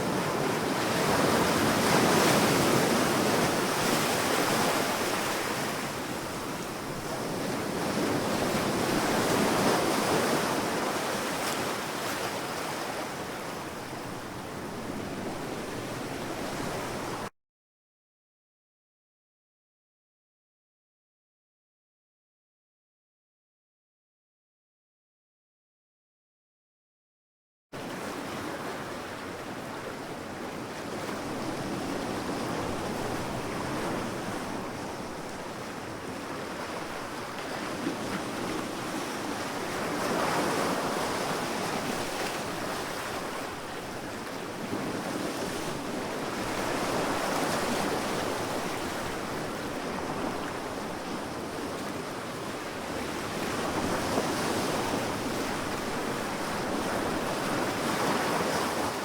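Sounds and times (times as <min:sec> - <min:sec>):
sea waves breaking on beach: 0:00.0 - 0:17.3, 0:27.8 - 0:59.0.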